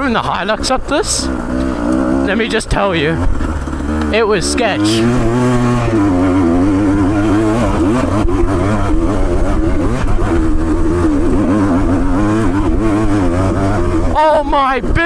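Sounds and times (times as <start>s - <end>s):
motorcycle engine revving uphill: 0.0s - 15.0s.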